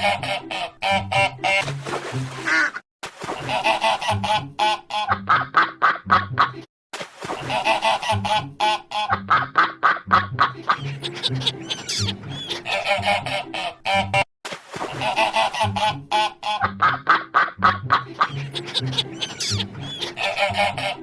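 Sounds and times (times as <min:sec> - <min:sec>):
ducks quacking: 0:00.0 - 0:02.8, 0:03.4 - 0:06.7, 0:07.4 - 0:14.2, 0:14.9 - 0:21.0.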